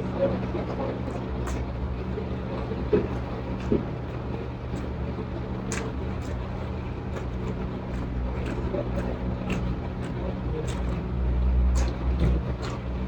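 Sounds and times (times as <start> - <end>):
chewing mouth clicks and smacks: 0.0 - 13.0.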